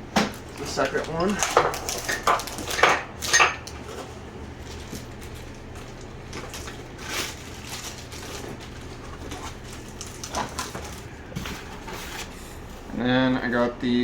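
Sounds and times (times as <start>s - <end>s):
packaging rustling: 0.0s - 12.8s
steady low hum: 0.0s - 14.0s.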